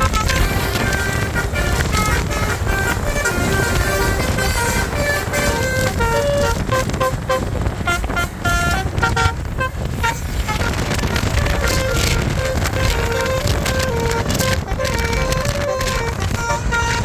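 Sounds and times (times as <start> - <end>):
low engine and road rumble: 0.0 - 17.0
multi-tone bus horn melody: 0.0 - 17.0.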